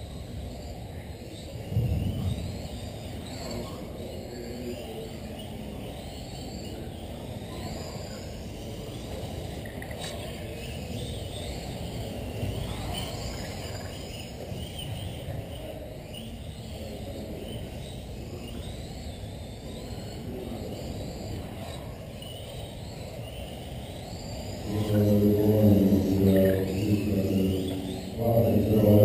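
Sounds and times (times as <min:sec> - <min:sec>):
rc car motors whining: 0:00.0 - 0:29.0.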